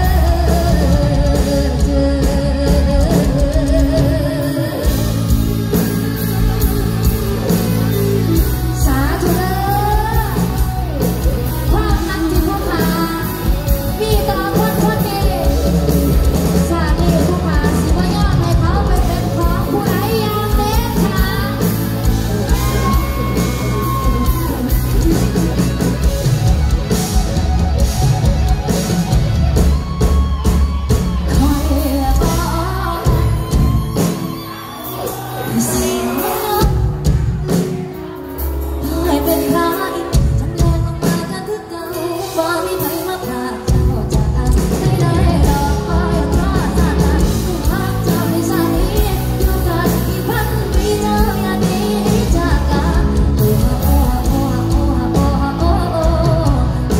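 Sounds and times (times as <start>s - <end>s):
woman singing through pa: 0.0s - 25.4s, 31.2s - 37.2s, 38.8s - 56.9s
backing singer: 0.0s - 56.9s
bass and drums: 0.0s - 56.9s.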